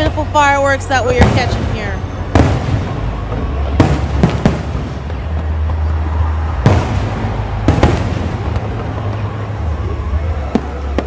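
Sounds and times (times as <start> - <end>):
fireworks exploding: 0.0 - 11.0.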